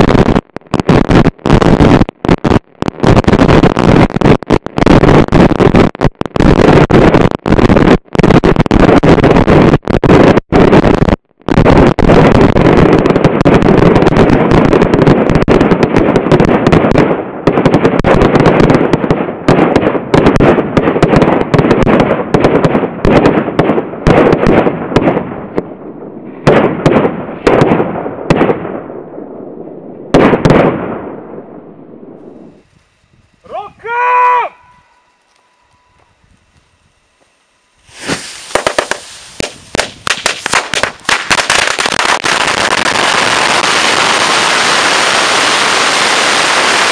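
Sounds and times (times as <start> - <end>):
firecrackers exploding: 0.0 - 46.9.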